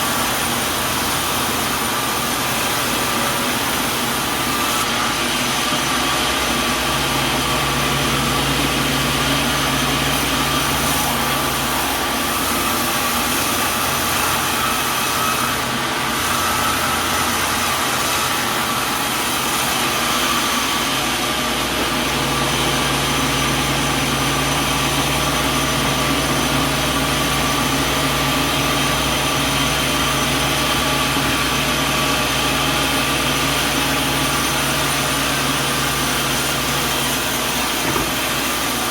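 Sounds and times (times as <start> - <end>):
machine whine: 0.0 - 38.9
sawmill machinery drone: 0.0 - 38.9.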